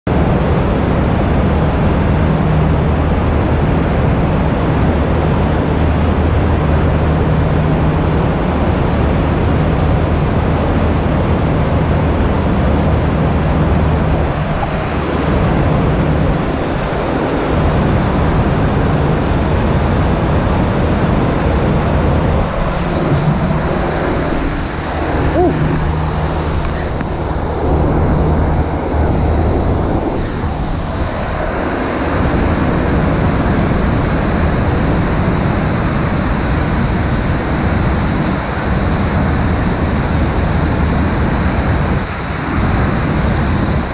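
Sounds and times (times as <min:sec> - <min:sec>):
rushing water: 0:00.1 - 0:43.9.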